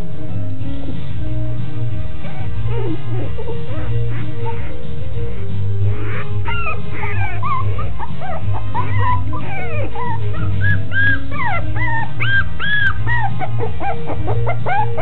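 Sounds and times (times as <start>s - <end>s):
background music: 0.0s - 15.0s
puppies whimpering and squealing: 2.2s - 15.0s.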